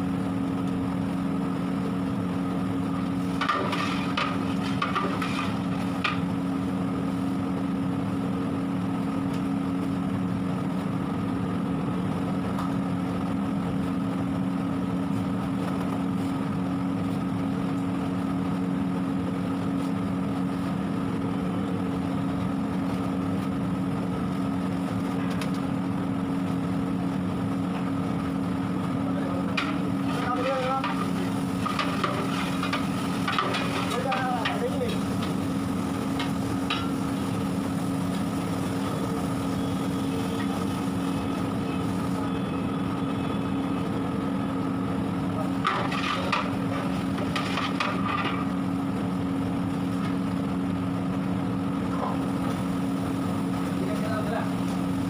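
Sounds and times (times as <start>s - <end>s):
steady hum of held tones: 0.0s - 55.0s.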